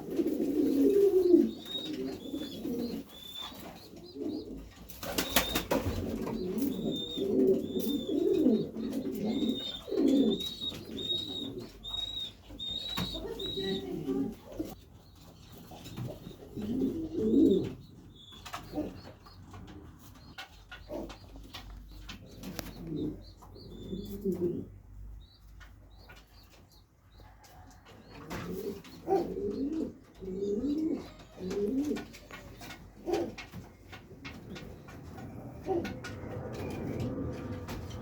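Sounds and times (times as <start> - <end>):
pigeons cooing: 0.0 - 14.8, 15.7 - 25.4, 27.4 - 38.0.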